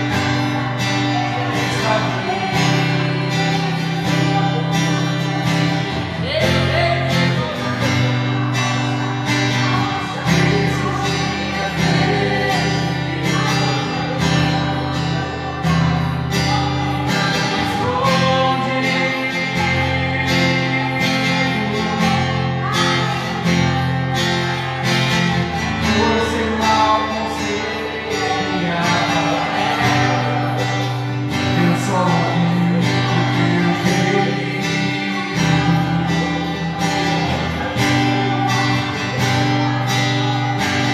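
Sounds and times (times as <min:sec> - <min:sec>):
strummed acoustic guitar: 0:00.0 - 0:40.9.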